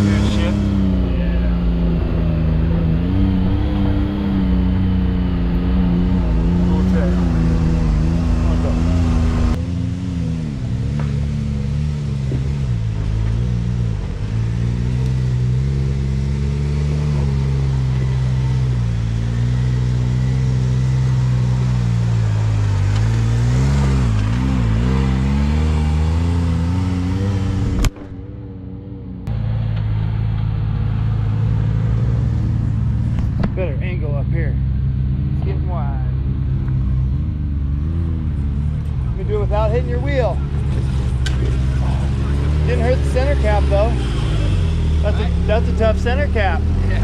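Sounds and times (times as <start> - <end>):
engine running at low revs: 0.0 - 47.0.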